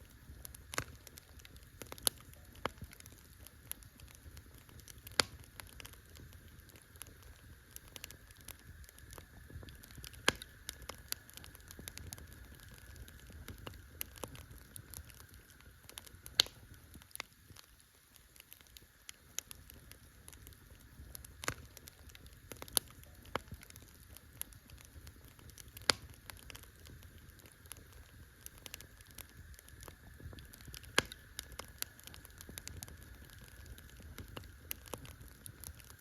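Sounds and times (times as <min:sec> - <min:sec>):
campfire crackling: 0:00.0 - 0:36.0
sharp fire pops: 0:00.2 - 0:17.7, 0:18.3 - 0:36.0.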